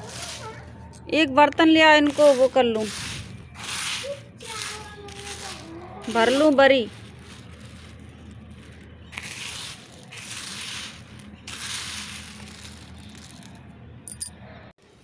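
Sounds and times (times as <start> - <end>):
dry nuggets rustling by hand: 0.0 - 14.2.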